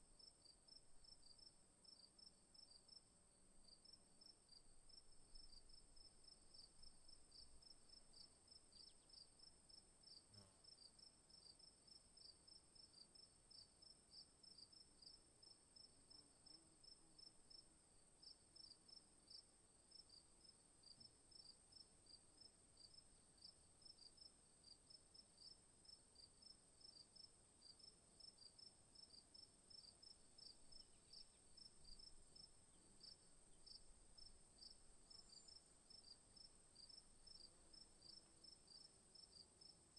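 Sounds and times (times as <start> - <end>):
insect chirping: 0.2 - 17.6, 18.2 - 39.9.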